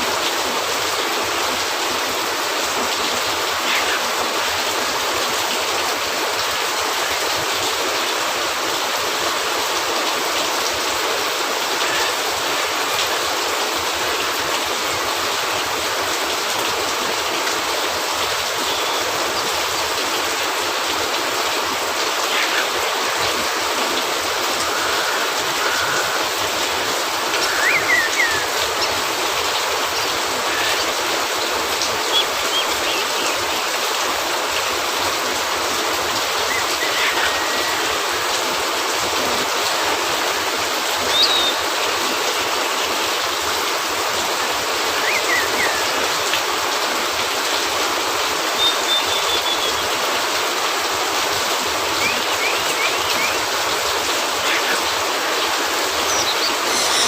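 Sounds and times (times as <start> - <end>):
rain hissing on a roof: 0.0 - 57.0.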